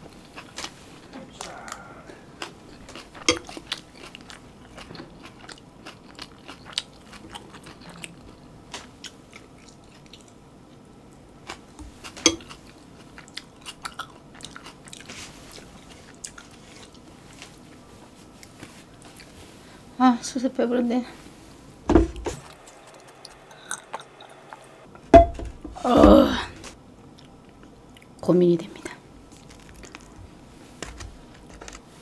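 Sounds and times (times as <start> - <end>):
person chewing: 0.0 - 10.8, 11.4 - 19.4, 22.4 - 24.8, 25.8 - 28.2, 29.3 - 31.8.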